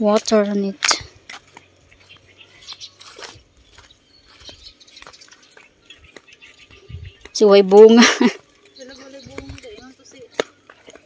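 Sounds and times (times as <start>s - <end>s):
footsteps crunching on leaves: 0.0s - 11.0s
bird chirp: 0.3s - 11.0s.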